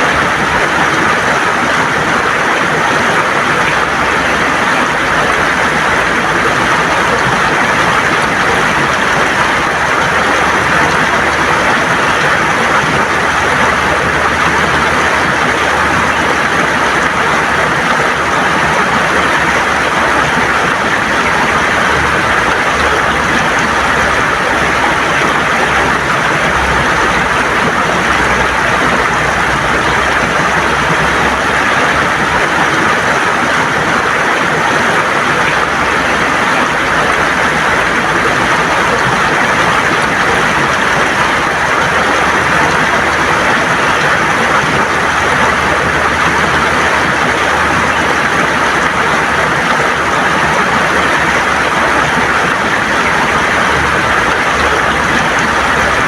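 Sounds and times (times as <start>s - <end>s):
river water rushing over stones: 0.0s - 56.0s.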